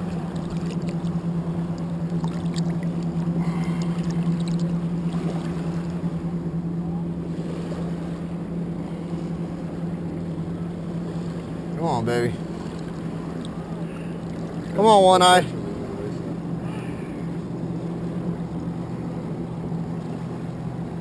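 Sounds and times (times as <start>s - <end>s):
light water splashes: 0.0s - 21.0s
low motor hum: 0.0s - 21.0s.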